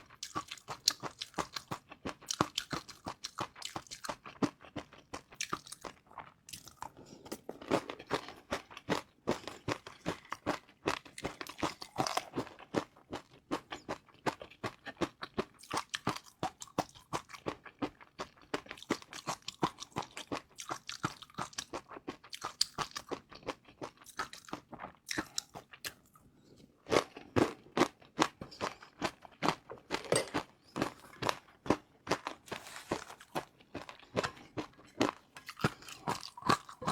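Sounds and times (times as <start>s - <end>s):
chewing crispy fried noodles: 0.0s - 30.0s, 30.6s - 36.9s.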